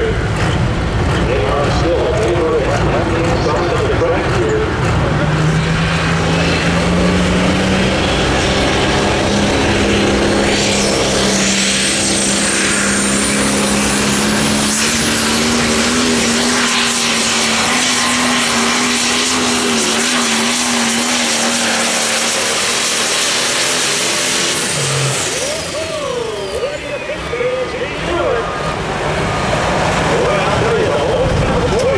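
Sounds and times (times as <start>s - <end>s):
diesel engine running hard: 0.0s - 31.9s
turbocharger whine: 0.0s - 31.9s.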